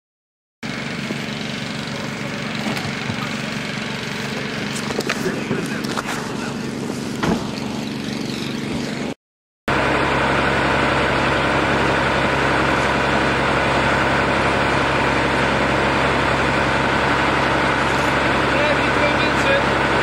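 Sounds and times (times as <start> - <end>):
heavy engine idling: 0.6 - 20.0.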